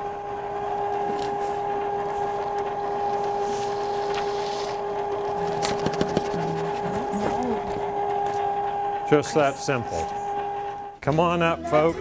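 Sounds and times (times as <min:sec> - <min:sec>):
ice cream maker motor humming: 0:00.0 - 0:12.0.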